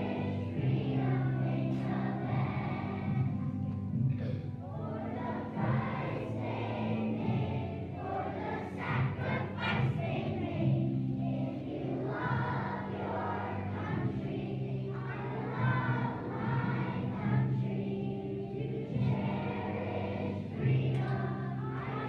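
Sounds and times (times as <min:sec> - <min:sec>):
children singing together: 0:00.0 - 0:22.0
low accompaniment tones: 0:00.0 - 0:22.0.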